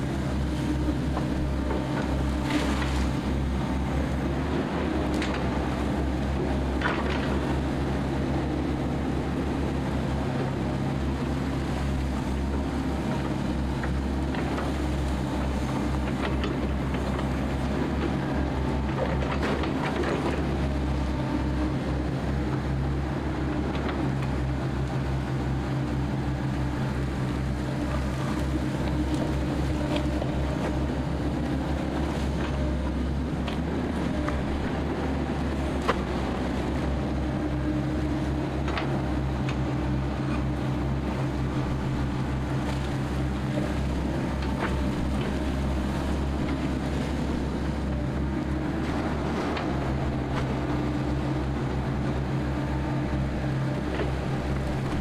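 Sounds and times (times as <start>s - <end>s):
diesel excavator engines droning: 0.0s - 55.0s.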